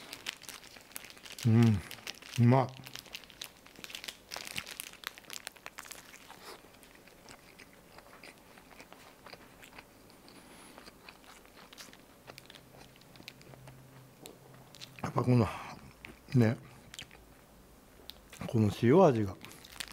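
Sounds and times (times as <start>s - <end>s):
person chewing crunchy food: 0.0s - 17.3s, 19.4s - 19.9s.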